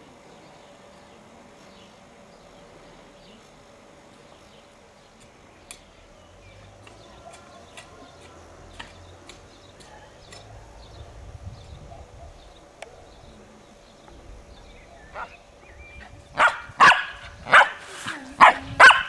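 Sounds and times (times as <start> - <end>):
small birds chirping: 0.2 - 17.5.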